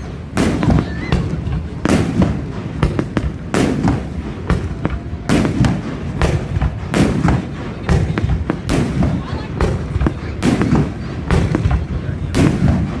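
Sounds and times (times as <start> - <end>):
fireworks booming: 0.0 - 13.0
fireworks pops and crackles: 0.0 - 13.0.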